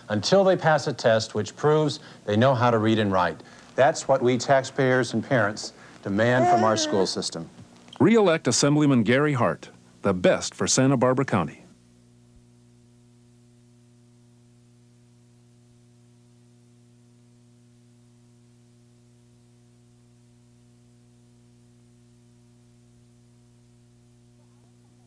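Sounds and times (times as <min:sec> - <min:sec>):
light tape hiss: 0:00.0 - 0:10.9, 0:11.6 - 0:25.0
faint mains hum: 0:00.0 - 0:25.0.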